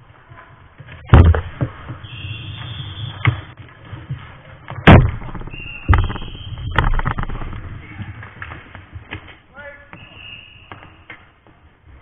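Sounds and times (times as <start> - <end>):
ball and sticks hitting goalie pads: 0.7 - 11.9.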